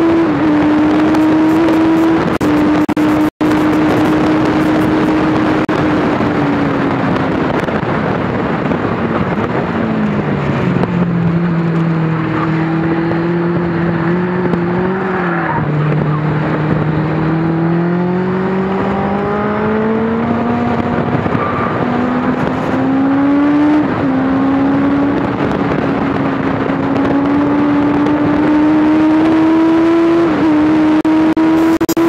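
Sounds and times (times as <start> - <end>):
motorcycle engine accelerating hard: 0.0 - 32.0.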